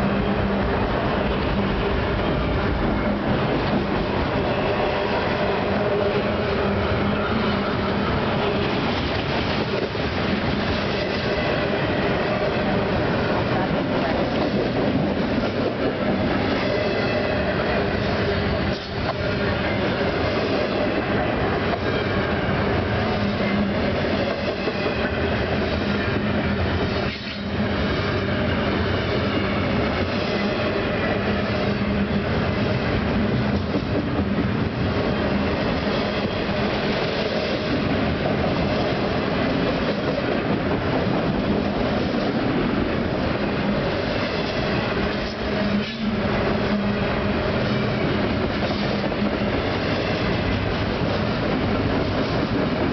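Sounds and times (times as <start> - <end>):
freight train wheels rumbling on rail: 0.0 - 52.9.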